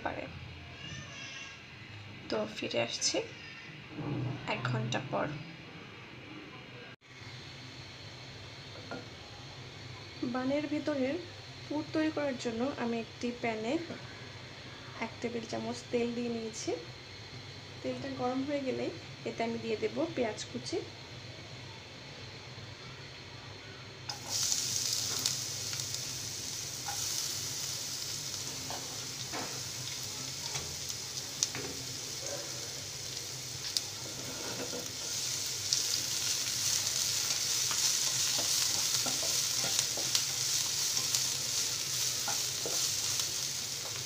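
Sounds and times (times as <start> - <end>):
onion sizzling in frying pan: 7.0 - 44.0.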